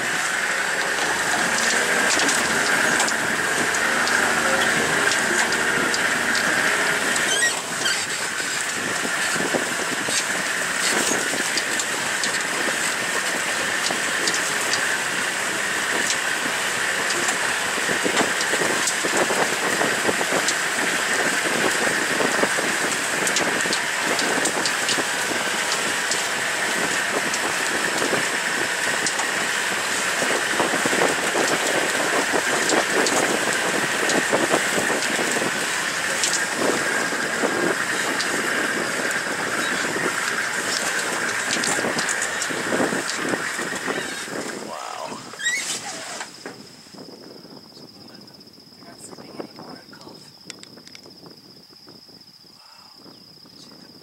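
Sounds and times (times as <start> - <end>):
vehicle engine and road noise: 0.0 - 48.1.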